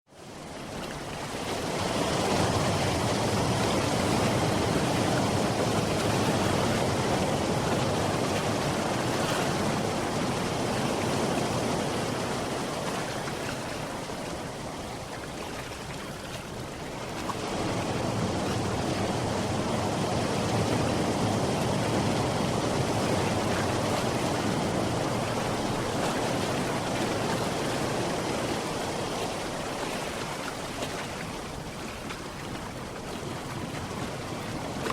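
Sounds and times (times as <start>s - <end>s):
sea surf washing: 0.2s - 34.9s.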